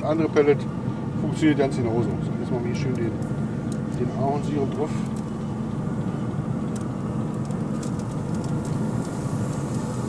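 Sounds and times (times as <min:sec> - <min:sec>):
smoker mechanical hum: 0:00.0 - 0:10.0.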